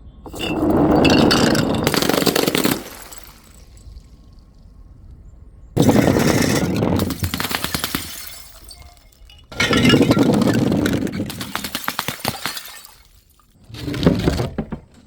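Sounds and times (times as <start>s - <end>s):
glass bottles shattering: 0.3s - 4.2s, 5.8s - 14.6s.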